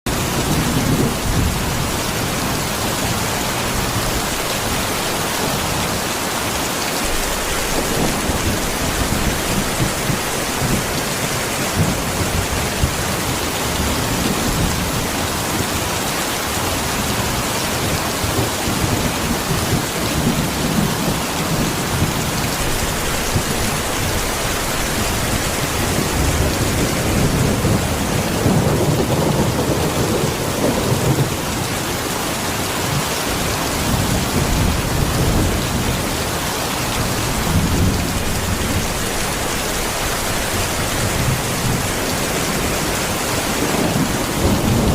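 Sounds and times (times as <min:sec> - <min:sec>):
steady rain hissing: 0:00.1 - 0:44.9.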